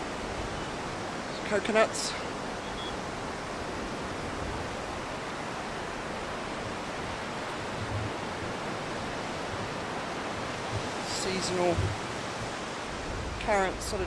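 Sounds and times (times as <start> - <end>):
surf breaking on sandy beach: 0.0 - 14.0.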